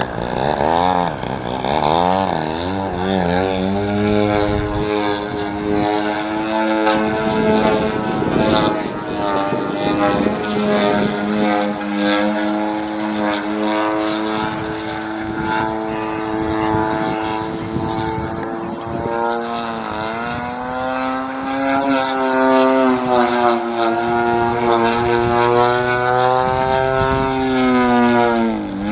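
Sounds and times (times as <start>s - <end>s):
model airplane engine droning: 0.0s - 28.9s.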